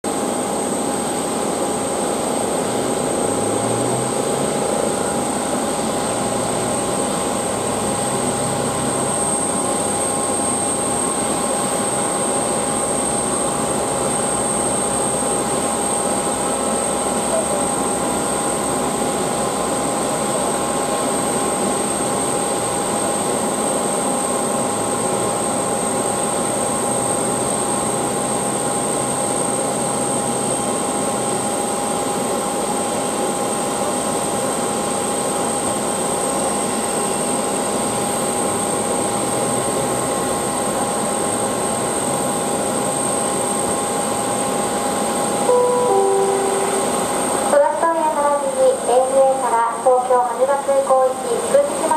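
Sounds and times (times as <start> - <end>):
aircraft machinery whine: 0.1 - 51.9.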